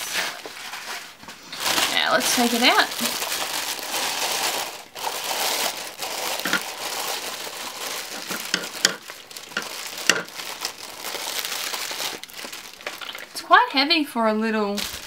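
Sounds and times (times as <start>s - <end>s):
plastic packaging crinkling: 0.0s - 13.6s, 14.7s - 15.0s.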